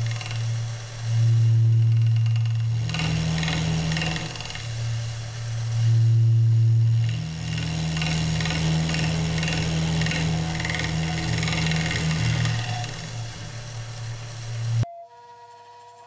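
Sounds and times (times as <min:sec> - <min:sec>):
lathe motor humming: 0:00.0 - 0:14.8
tool cutting spinning resin: 0:00.0 - 0:14.8.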